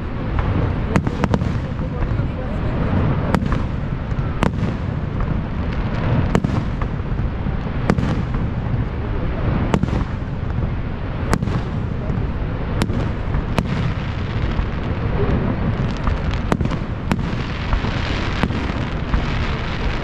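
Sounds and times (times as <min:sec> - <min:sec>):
fireworks bangs: 0:00.0 - 0:20.0
low rushing background: 0:00.0 - 0:20.0.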